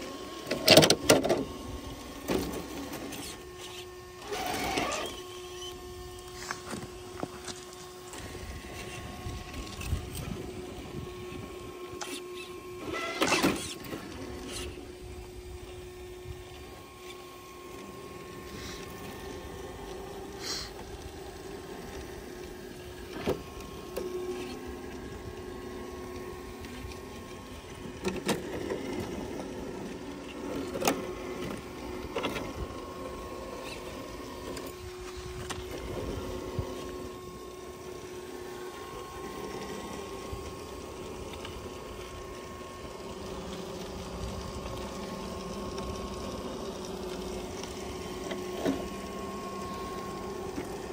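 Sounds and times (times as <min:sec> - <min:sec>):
electric motor whining: 0:00.0 - 0:50.9.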